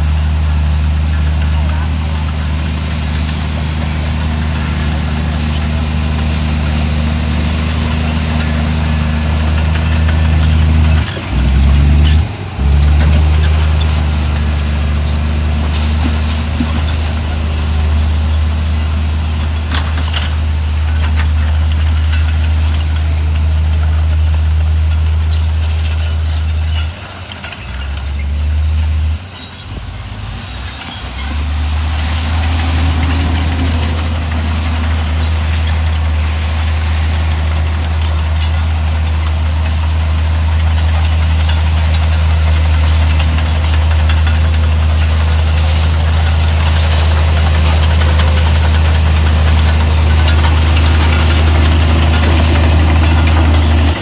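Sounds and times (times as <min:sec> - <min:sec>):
heavy diesel engine drone: 0:00.0 - 0:54.0.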